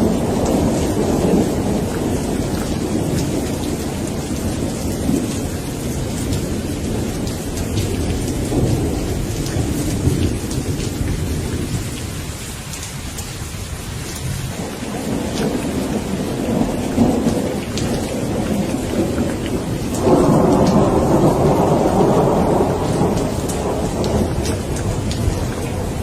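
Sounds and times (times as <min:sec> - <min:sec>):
rolling thunder: 0:00.0 - 0:12.3, 0:14.2 - 0:26.0
steady rain falling: 0:00.0 - 0:26.0.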